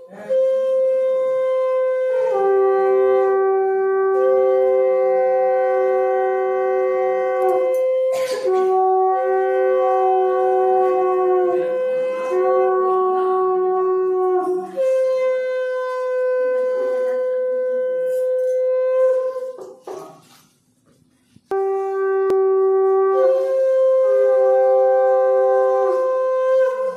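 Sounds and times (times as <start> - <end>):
conch shells blown: 0.0 - 20.5, 21.4 - 26.9.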